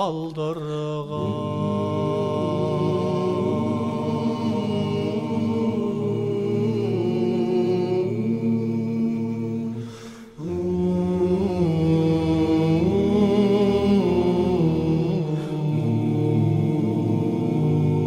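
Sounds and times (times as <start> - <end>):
wordless chanted vocal drone: 0.0 - 18.0.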